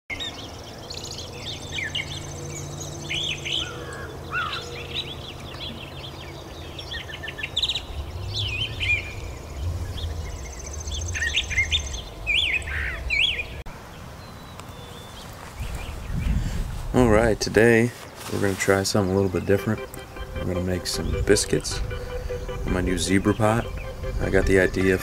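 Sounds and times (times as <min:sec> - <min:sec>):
bird singing varied phrases: 0:00.1 - 0:13.6, 0:18.0 - 0:25.0.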